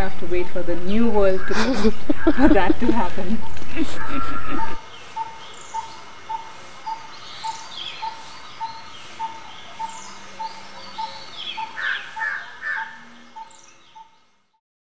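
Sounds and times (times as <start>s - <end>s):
birds chirping and whistling: 0.0s - 14.4s.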